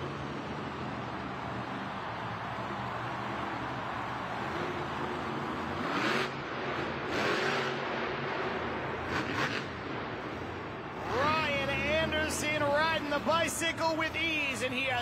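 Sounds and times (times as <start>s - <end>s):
monster truck engine drone: 0.0s - 15.0s.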